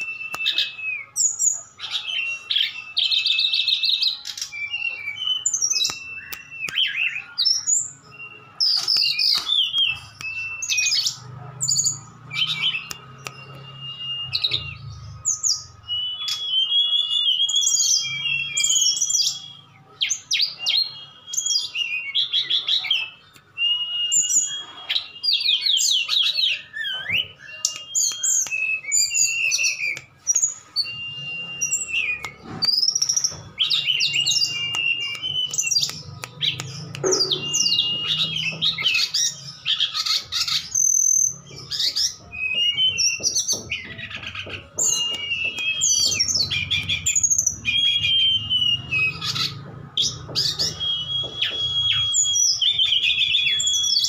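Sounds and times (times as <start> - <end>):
small birds whistling and trilling: 0.0 - 54.0.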